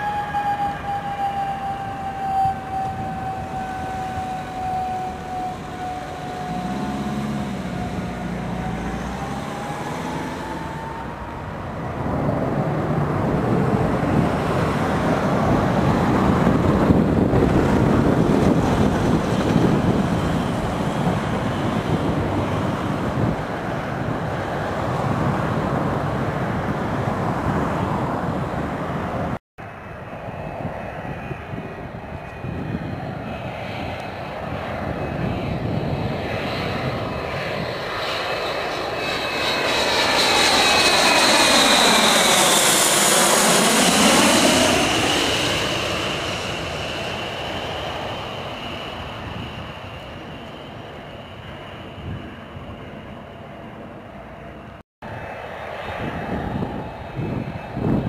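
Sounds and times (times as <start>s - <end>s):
jet engines whining: 0.0s - 58.0s
loud rush of jet noise: 0.0s - 58.0s.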